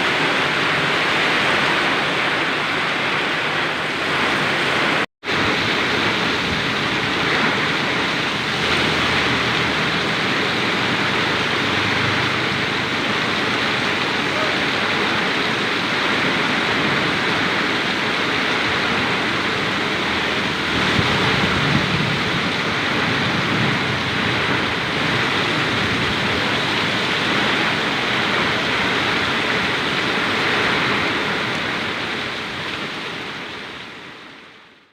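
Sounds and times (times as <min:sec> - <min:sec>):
heavy rain in strong wind: 0:00.0 - 0:34.9.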